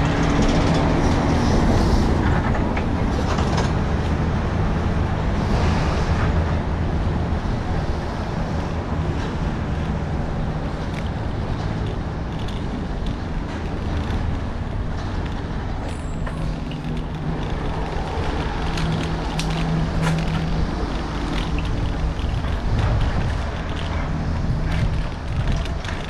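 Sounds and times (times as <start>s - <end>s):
bicycle tyres rolling on paving: 0.0s - 26.0s
wheels clicking over pavement joints: 0.0s - 26.0s
wind on microphone: 0.0s - 26.0s.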